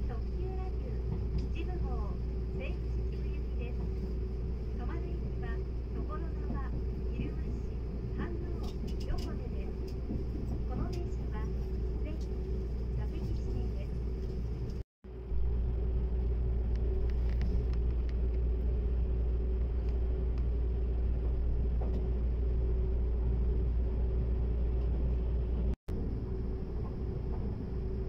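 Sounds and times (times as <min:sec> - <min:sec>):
steady hum: 0:00.0 - 0:28.0
train rumble: 0:00.0 - 0:28.0.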